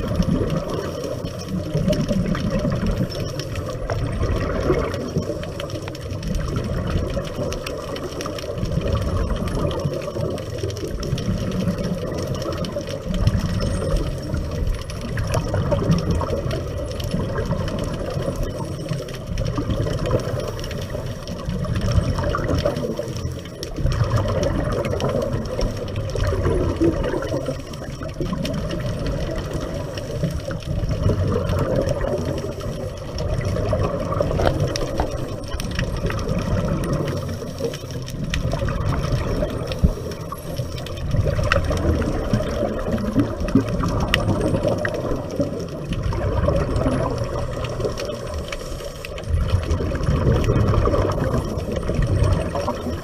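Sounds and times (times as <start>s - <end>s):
underwater rushing water: 0.0s - 53.0s.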